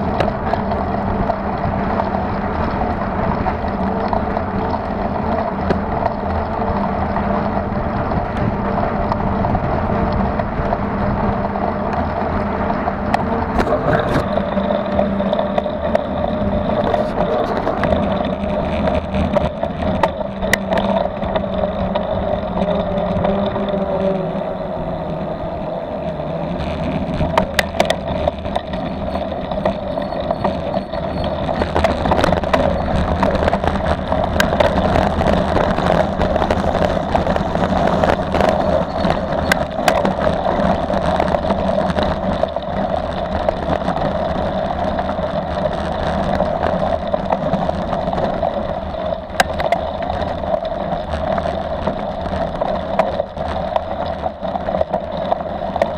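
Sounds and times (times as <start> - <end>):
bike rattling clicks: 0.0 - 55.9
tyres rolling hum and rumble: 0.0 - 55.9.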